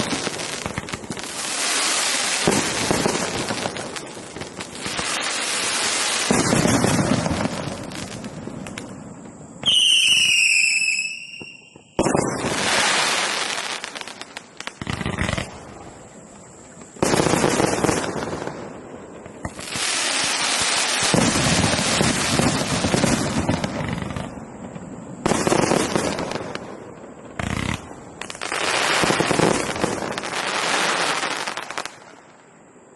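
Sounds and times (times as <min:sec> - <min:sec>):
fireworks banging and crackling: 0:00.0 - 0:32.5.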